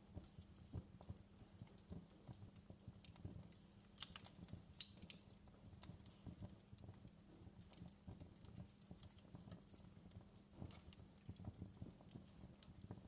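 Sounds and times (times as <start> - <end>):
fireplace crackling: 0.0 - 13.0.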